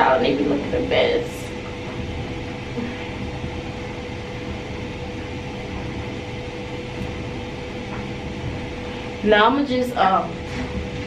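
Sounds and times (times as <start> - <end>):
mechanical hum and hiss: 0.0 - 11.0.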